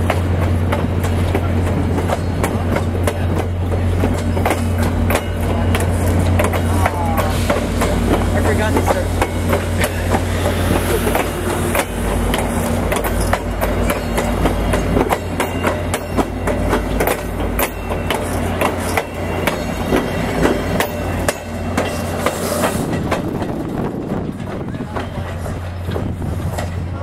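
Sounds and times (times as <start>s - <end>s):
train low rumble: 0.0s - 27.0s
train wheels clacking on rail joints: 0.0s - 27.0s.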